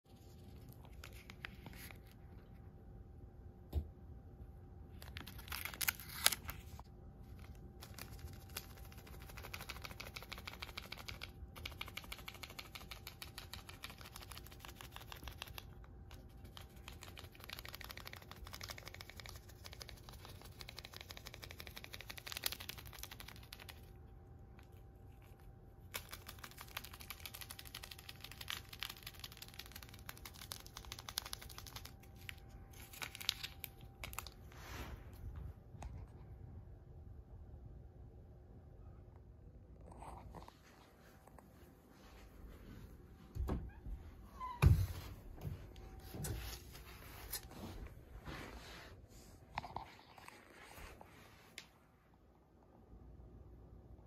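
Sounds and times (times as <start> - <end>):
faint steady hum: 0.1 - 54.0.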